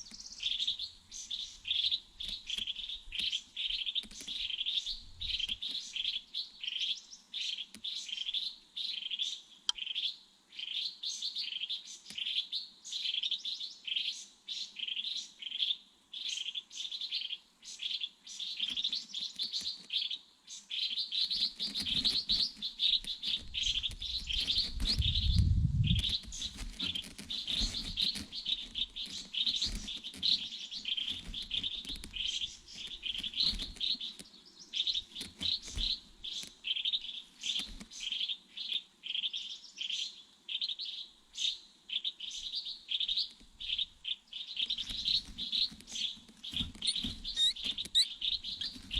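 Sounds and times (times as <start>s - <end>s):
small bird chirping: 0.0s - 48.9s.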